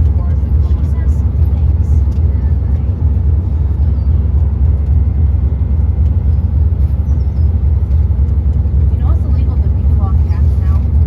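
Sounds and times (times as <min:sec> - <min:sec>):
moving tram rumble: 0:00.0 - 0:11.0.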